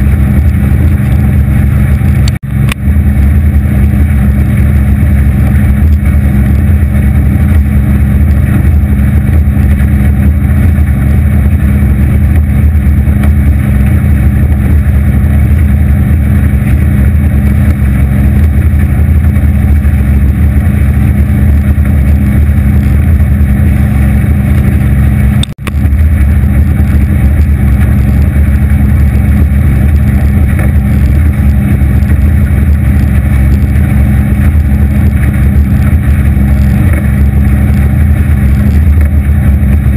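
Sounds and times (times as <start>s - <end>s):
outboard motor running: 0.0s - 39.9s
water rushing along hull: 0.0s - 39.9s.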